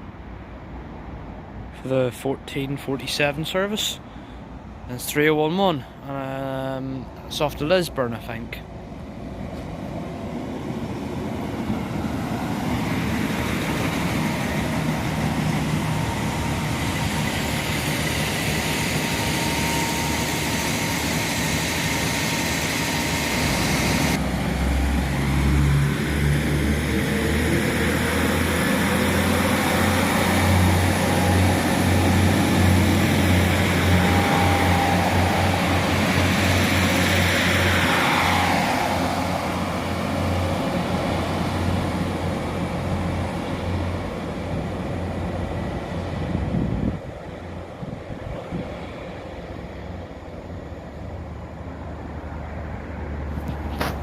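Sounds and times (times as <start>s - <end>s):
low train engine drone: 0.0s - 54.0s.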